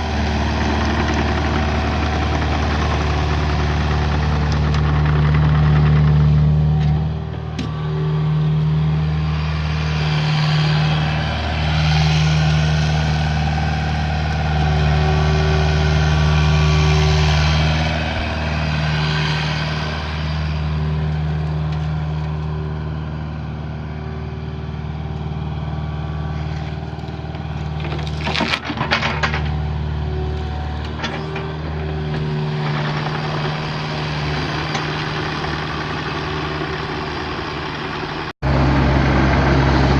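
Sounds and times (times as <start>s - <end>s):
diesel engine running: 0.0s - 39.9s
hydraulic whine: 4.0s - 39.9s.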